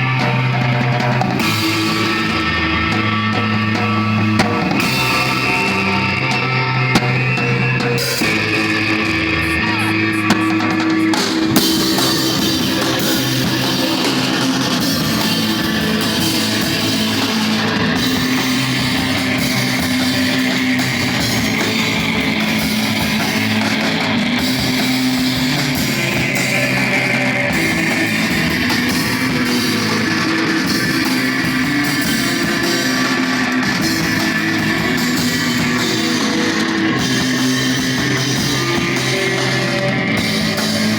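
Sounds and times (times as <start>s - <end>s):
drum kit: 0.0s - 40.9s
electric guitar: 0.0s - 40.9s.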